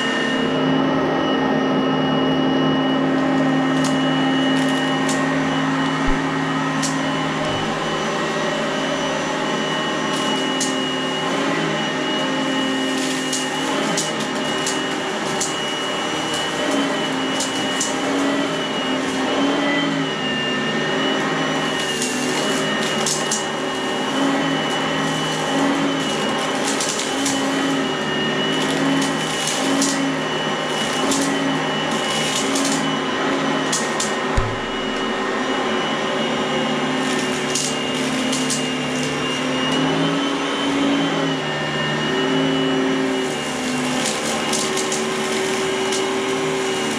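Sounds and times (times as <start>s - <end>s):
vacuum cleaner motor whine: 0.0s - 46.9s.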